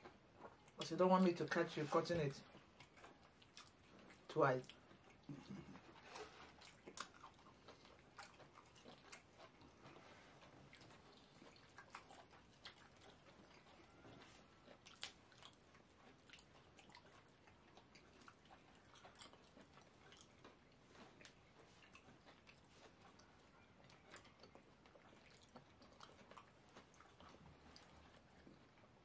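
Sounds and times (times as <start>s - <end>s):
wet chewing and mouth smacks: 0.0s - 29.0s.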